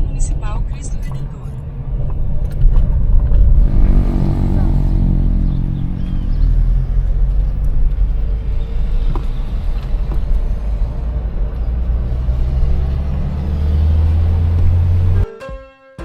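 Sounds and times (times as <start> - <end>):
car engine drone: 0.0 - 15.2
road rumble: 0.0 - 15.3.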